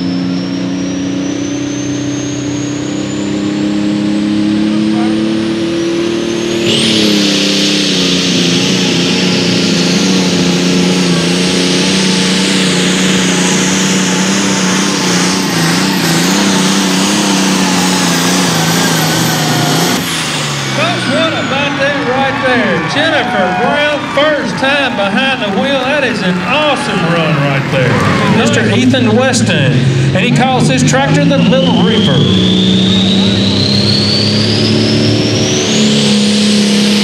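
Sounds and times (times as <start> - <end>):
high turbo whistle: 0.0 - 25.5, 29.9 - 37.0
diesel tractor engine at high revs: 0.0 - 37.0.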